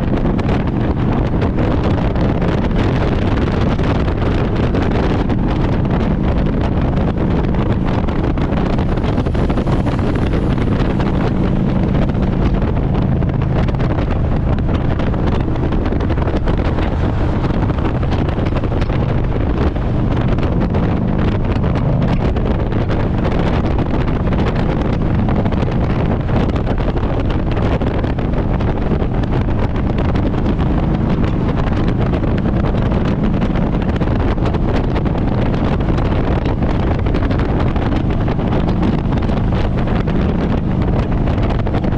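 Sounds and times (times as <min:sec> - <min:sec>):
motorcycle engine cruising: 0:00.0 - 0:41.9
wind noise on microphone: 0:00.0 - 0:41.9.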